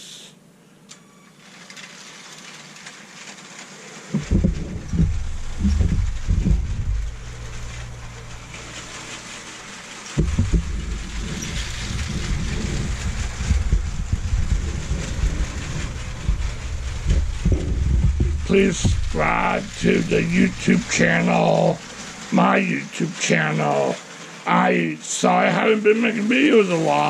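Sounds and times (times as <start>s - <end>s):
wheels clicking over rails: 0.9s - 27.0s
toy train motor rattling rumble: 1.3s - 27.0s.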